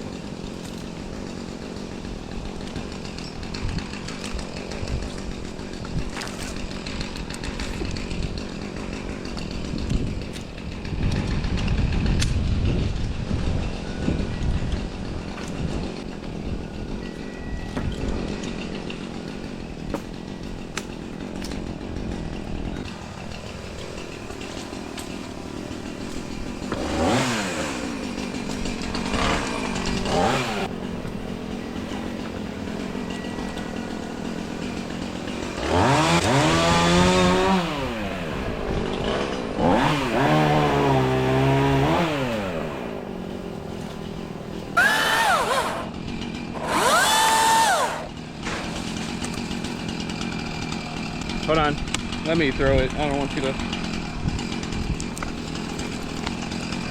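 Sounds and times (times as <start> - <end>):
battery chainsaw motor whine: 0.0 - 56.9.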